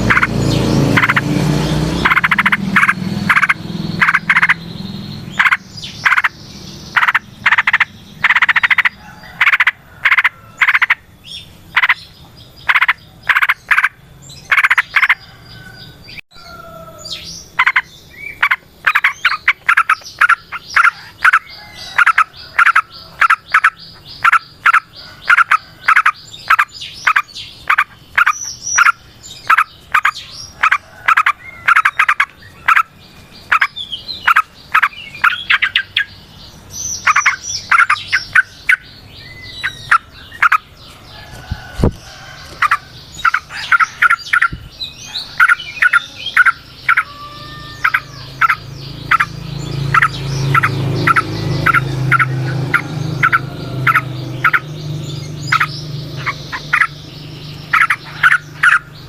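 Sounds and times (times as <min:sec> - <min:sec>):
bird singing rolling song: 0:00.0 - 0:59.0.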